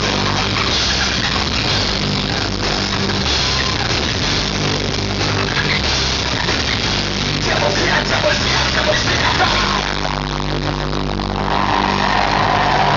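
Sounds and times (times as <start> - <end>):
live rock band playing: 0.0 - 12.9.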